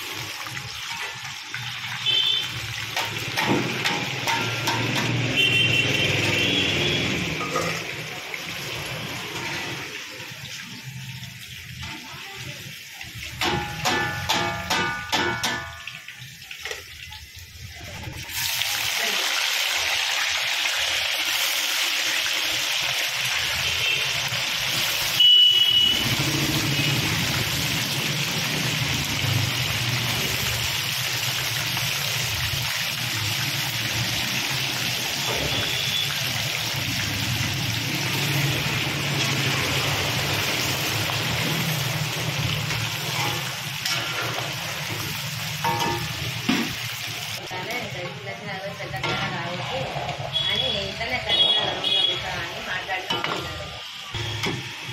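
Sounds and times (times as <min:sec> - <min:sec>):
chicken sizzling in hot oil: 0:00.0 - 0:54.9.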